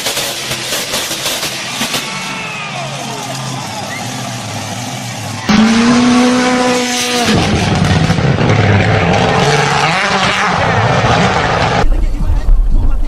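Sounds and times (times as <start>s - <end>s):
vehicle engine: 0.0s - 12.1s
road noise: 0.0s - 12.5s
steady rising pitched tone: 1.4s - 11.9s.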